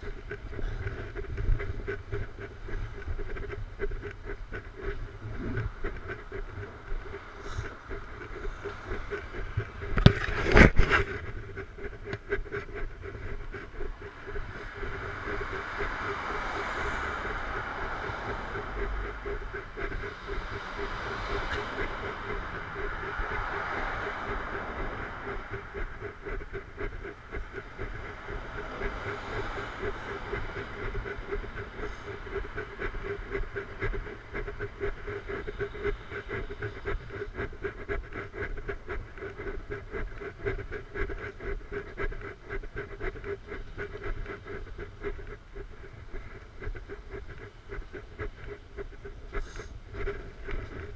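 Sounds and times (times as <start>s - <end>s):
constant hum: 0.0s - 50.9s
passing vehicles: 0.0s - 50.9s
road and wind noise: 0.0s - 50.9s.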